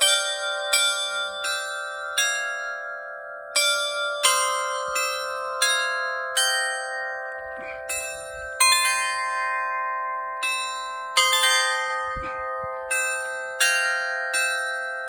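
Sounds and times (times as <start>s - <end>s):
tuned bells playing melody: 0.0s - 15.0s.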